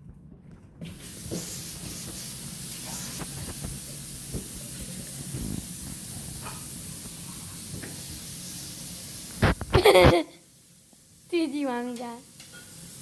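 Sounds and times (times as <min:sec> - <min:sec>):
steady hiss: 0:00.8 - 0:13.0.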